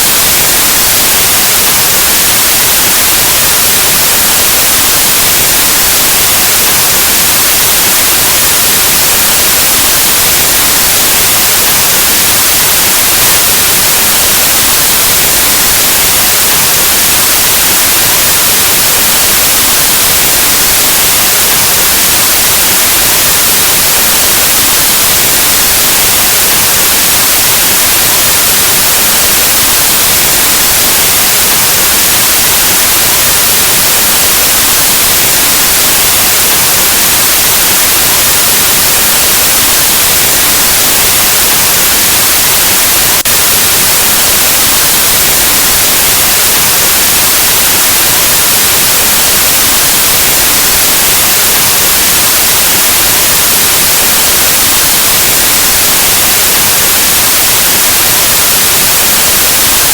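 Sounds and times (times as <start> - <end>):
static white noise hiss: 0.0 - 59.9.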